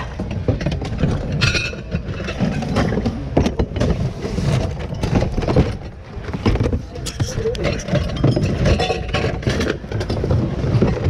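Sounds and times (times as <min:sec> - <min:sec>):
items knocking and clattering: 0:00.0 - 0:11.0.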